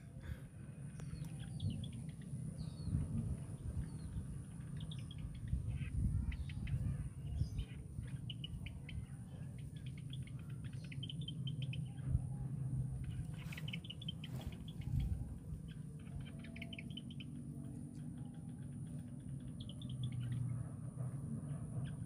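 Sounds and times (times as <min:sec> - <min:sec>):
steady low rumble: 0:00.0 - 0:22.0
small bird chirping: 0:00.9 - 0:20.8.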